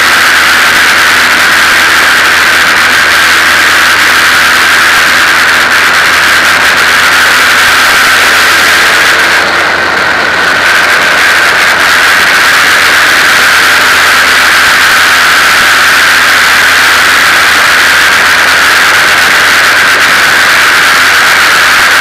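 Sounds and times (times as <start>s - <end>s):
race car engine: 0.0s - 22.0s
wind noise: 0.0s - 22.0s.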